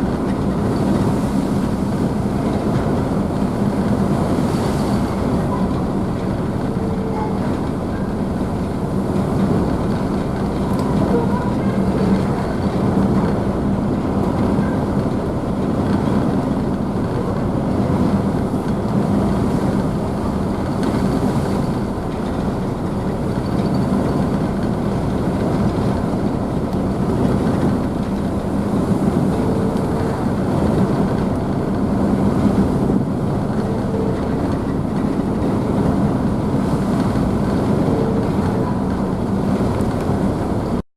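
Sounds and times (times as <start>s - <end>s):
rushing spray of wake: 0.0s - 40.8s
ship engines humming: 0.0s - 40.8s.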